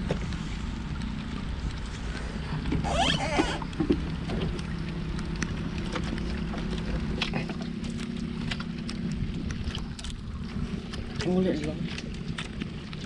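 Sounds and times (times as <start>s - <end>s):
light ticks and patter: 0.0s - 2.8s, 3.6s - 13.0s
boat engine running steadily: 0.0s - 13.0s.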